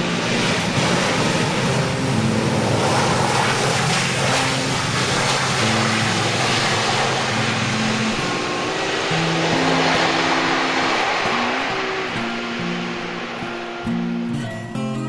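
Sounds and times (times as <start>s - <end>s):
jet engine noise: 0.0s - 15.0s.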